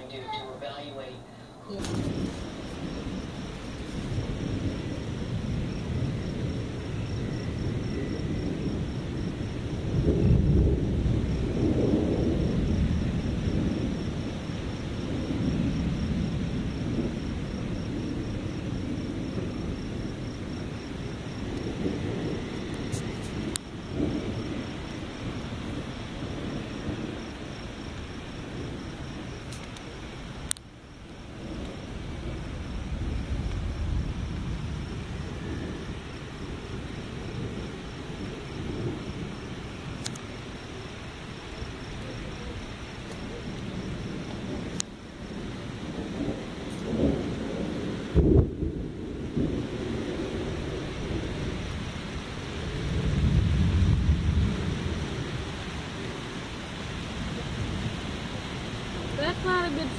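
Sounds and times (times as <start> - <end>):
thunder rumbling: 0.0 - 59.9.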